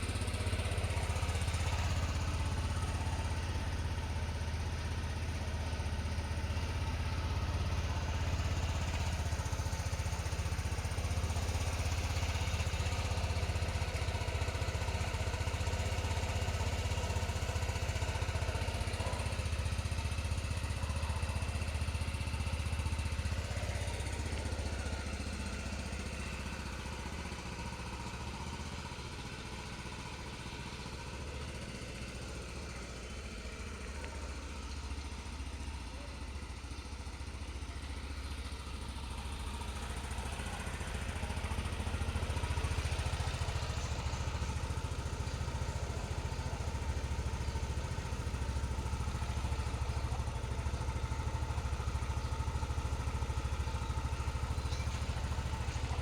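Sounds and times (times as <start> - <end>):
scooter engine idling: 0.0 - 56.0.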